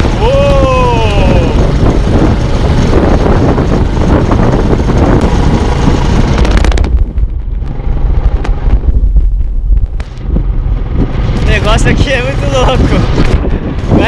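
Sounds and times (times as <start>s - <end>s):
deep rumble: 0.0s - 14.0s
wind buffeting microphone: 0.0s - 14.0s.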